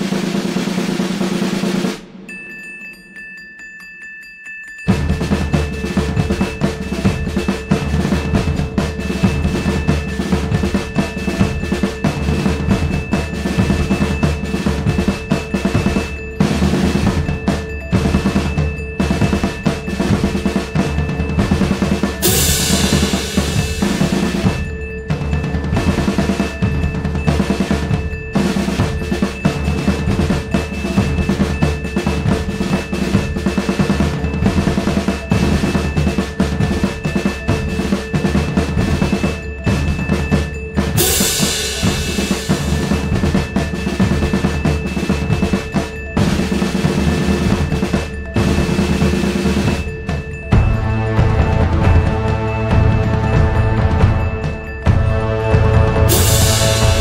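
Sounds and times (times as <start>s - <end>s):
music with busy drum beat: 0.0s - 3.2s, 4.7s - 57.0s.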